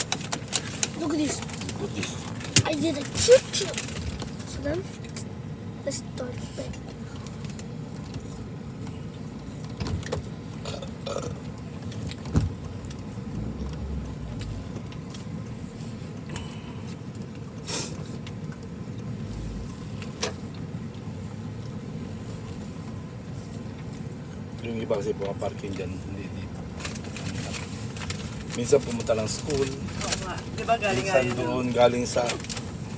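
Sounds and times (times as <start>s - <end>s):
car cabin hum: 0.0s - 17.6s, 18.2s - 32.9s.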